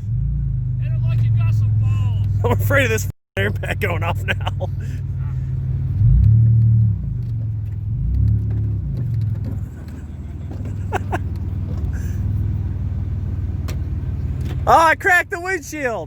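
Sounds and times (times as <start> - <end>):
loud car engine without exhaust: 0.0 - 16.0.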